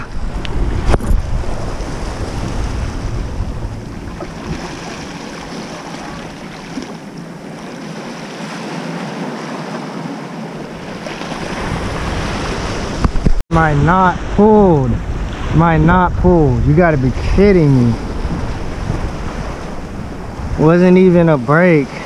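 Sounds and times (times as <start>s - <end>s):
wind buffeting microphone: 0.0s - 8.2s, 10.6s - 22.0s
surf washing against rocks: 0.0s - 22.0s.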